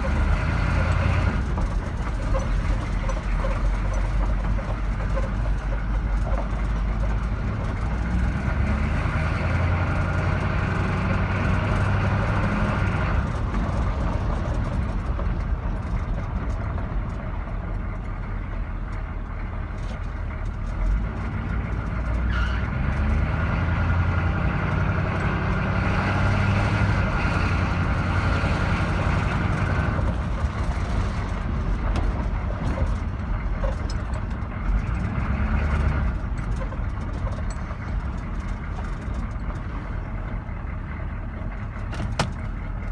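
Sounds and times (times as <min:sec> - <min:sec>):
pickup truck engine on the move: 0:00.0 - 0:42.9.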